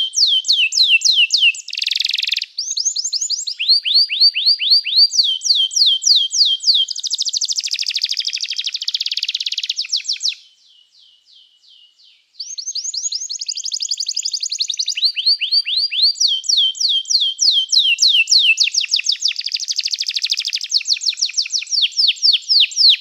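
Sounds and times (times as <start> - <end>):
canary singing: 0.0 - 10.4, 12.4 - 23.0.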